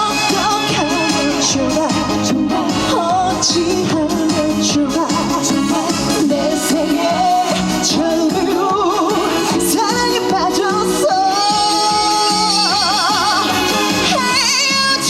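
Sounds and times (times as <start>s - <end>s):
backing music: 0.0s - 15.0s
woman singing: 0.0s - 15.0s.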